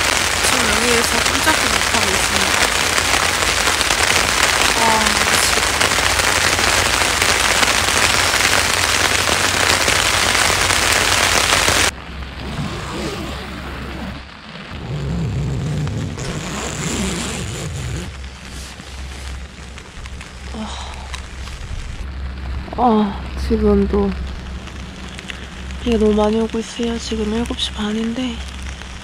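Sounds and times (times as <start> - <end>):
heavy rain on a tent: 0.0 - 29.0
low rumble: 0.0 - 29.0
quieter rain: 0.0 - 29.0.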